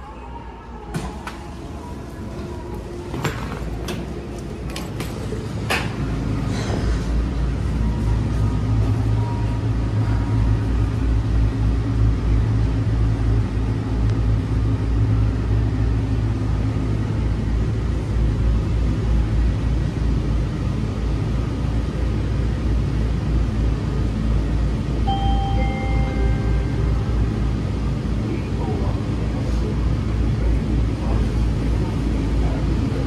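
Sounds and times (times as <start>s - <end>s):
low rumble of rolling car: 0.0s - 33.0s.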